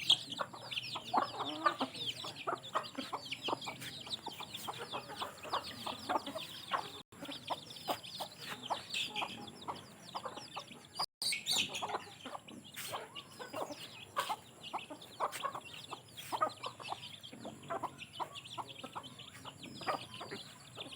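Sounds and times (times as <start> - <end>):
chicks peeping: 0.0 - 20.9
hens clucking: 0.0 - 20.9.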